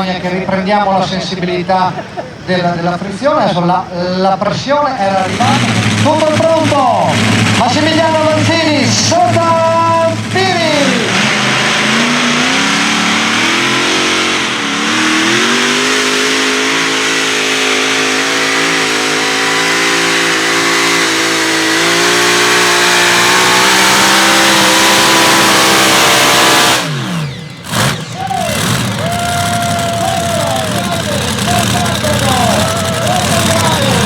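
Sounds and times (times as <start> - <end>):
tractor engine at high revs: 4.4 - 34.0.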